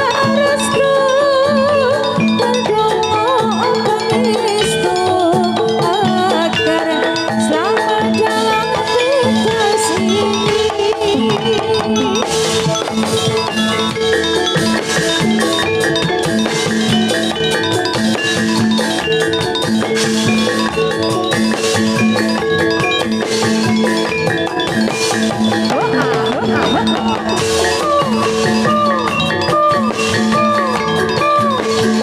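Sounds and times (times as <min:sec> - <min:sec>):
drums: 0:00.0 - 0:32.0
metallophones struck in dense pattern: 0:00.0 - 0:32.0.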